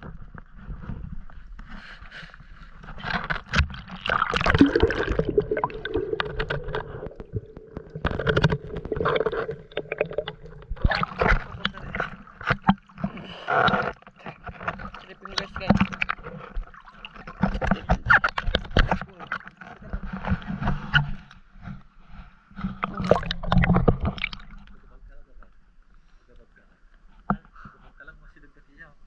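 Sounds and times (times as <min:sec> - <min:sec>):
water sloshing and gurgling: 0:00.0 - 0:25.8.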